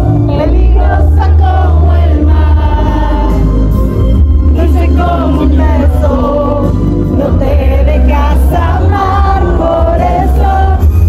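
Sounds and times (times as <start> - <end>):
live band with heavy bass: 0.0 - 11.0.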